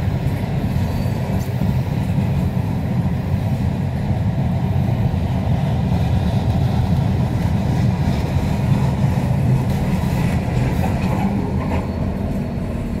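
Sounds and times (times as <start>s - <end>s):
diesel locomotive passing: 0.0s - 13.0s
train wheels rumbling on rails: 0.0s - 13.0s.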